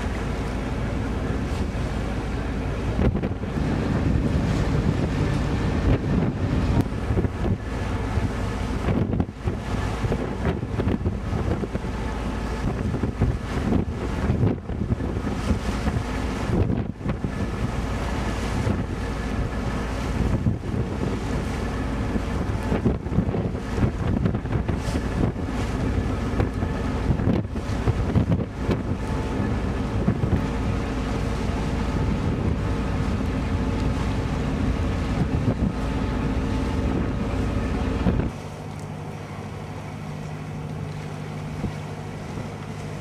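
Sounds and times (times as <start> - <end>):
wind buffeting microphone: 0.0 - 38.6, 39.2 - 43.0
ship engine low hum: 0.0 - 43.0.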